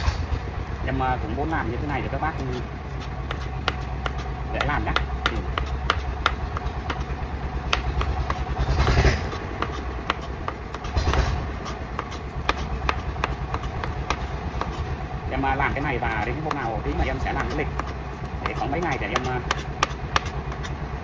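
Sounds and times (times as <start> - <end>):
tractor engine drone: 0.0 - 18.8.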